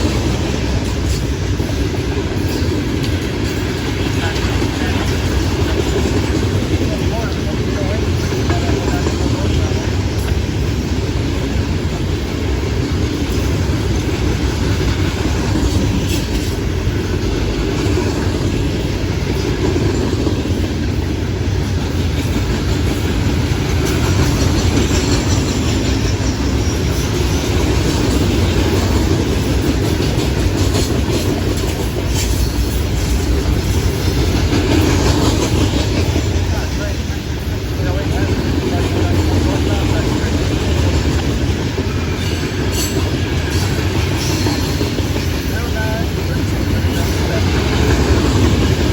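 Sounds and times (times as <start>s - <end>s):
freight train wheels rumbling on rail: 0.0s - 48.9s
train wheel clicks: 0.0s - 48.9s.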